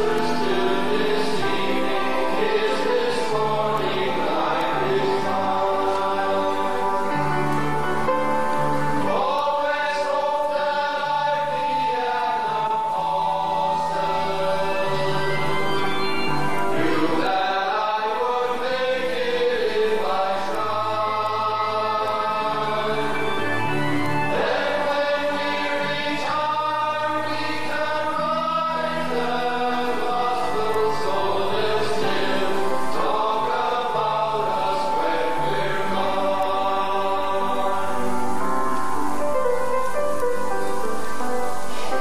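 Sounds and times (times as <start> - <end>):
men's chorus singing: 0.0 - 38.7.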